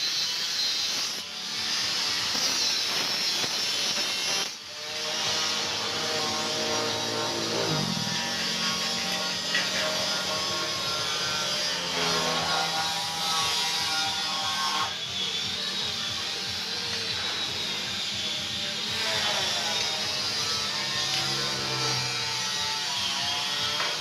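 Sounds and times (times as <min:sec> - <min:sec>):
power tool on steel: 0:00.0 - 0:24.0.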